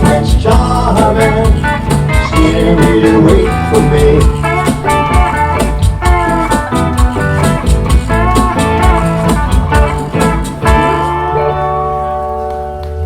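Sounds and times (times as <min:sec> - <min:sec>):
steady drum beat: 0:00.0 - 0:11.4
guitar: 0:00.0 - 0:13.0
live band playing: 0:00.0 - 0:13.0.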